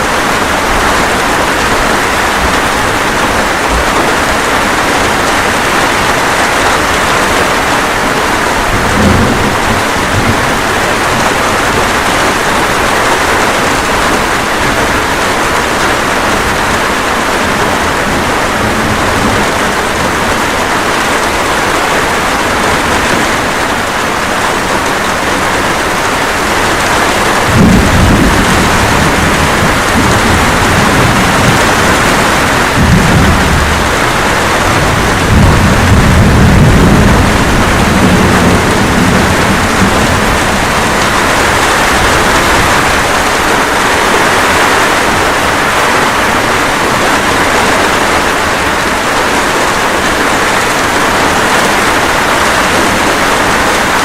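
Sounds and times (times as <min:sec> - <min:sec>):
light rain: 0:00.0 - 0:54.0
thunder rumbling: 0:00.0 - 0:54.0.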